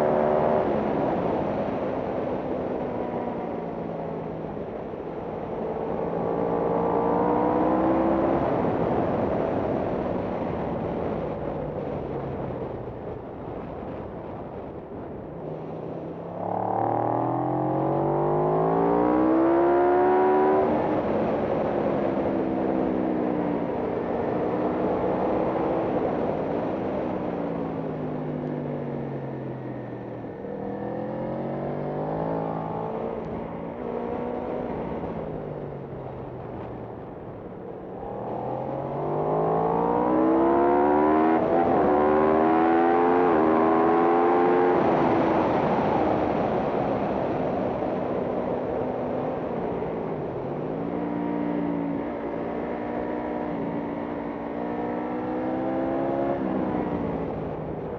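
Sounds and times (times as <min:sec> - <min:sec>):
wind noise: 0:00.0 - 0:57.9
racing motorcycle engine: 0:04.7 - 0:10.4, 0:15.7 - 0:36.7, 0:37.8 - 0:57.9.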